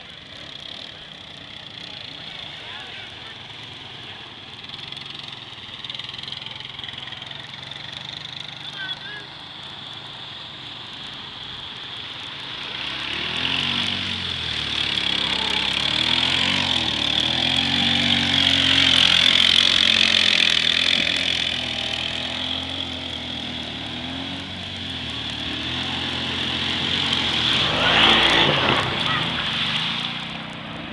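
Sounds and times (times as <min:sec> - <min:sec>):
quad engine revving: 0:00.0 - 0:09.2, 0:12.0 - 0:30.9.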